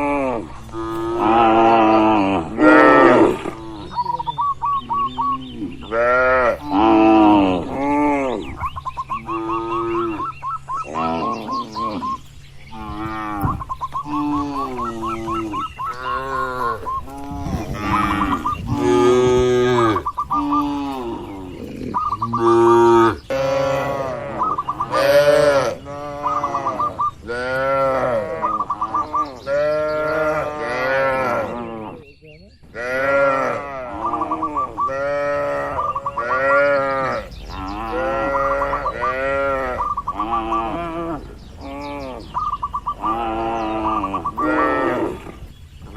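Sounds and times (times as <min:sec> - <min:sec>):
cattle mooing: 0:00.0 - 0:04.2, 0:04.9 - 0:08.5, 0:09.2 - 0:10.3, 0:10.9 - 0:32.0, 0:32.8 - 0:45.5.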